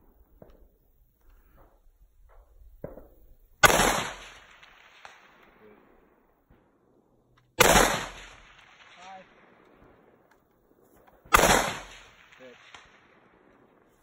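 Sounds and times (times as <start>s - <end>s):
rifle shots with echo: 2.7s - 14.0s.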